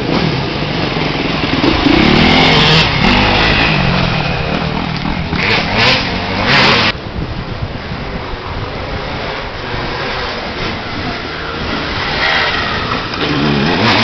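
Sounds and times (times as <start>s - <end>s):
dirt bike engine revving: 0.1s - 7.0s, 9.1s - 14.0s.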